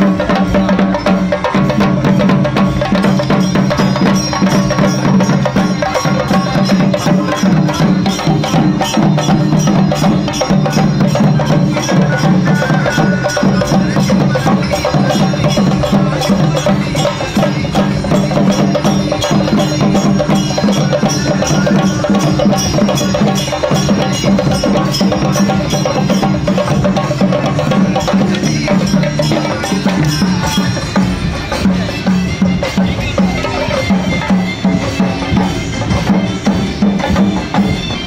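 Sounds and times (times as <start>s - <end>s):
drums beaten fast with sticks: 0.0s - 38.0s.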